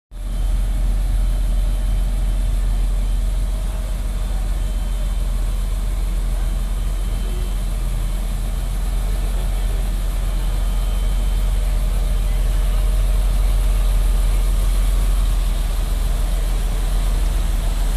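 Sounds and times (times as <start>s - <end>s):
diesel engine low rumble: 0.1s - 17.9s.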